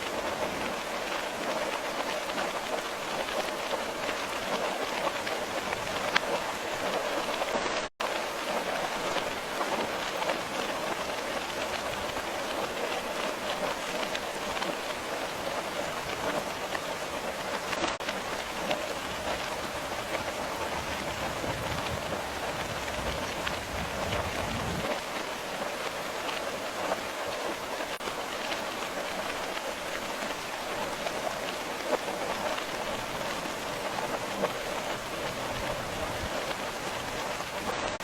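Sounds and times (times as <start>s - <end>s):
rain pattering: 0.0s - 38.0s.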